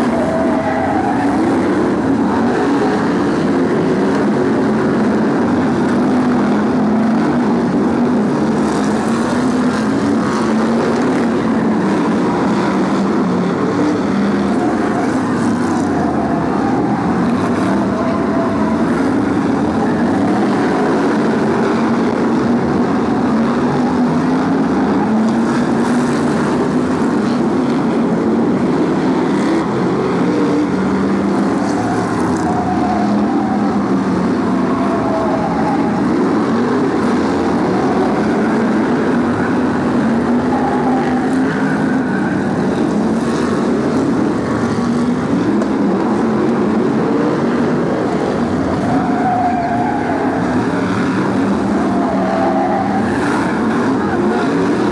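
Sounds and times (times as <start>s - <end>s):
racing car engines: 0.0s - 54.9s.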